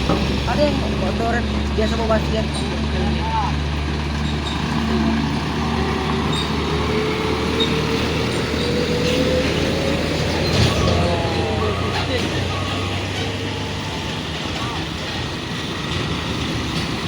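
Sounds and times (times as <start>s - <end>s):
heavy vehicle engine running: 0.0s - 17.0s
rising engine whine: 0.0s - 17.0s.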